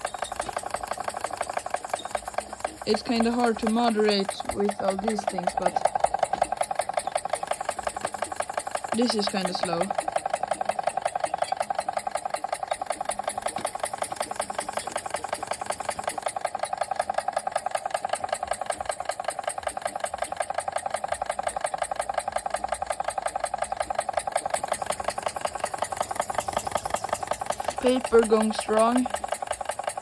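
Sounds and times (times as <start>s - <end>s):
toy steam engine running: 0.0s - 30.0s.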